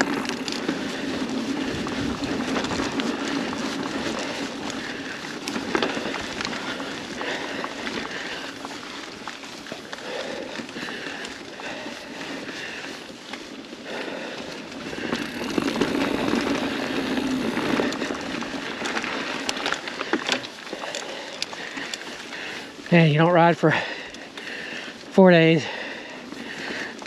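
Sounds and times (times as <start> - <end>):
bike clicks: 0.0 - 27.0
bike tyres on dirt and leaves: 0.0 - 27.0.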